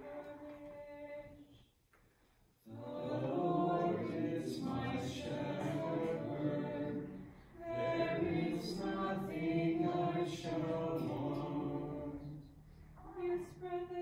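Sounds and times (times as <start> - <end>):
voices singing slow chant: 0.0 - 1.6, 2.6 - 14.0.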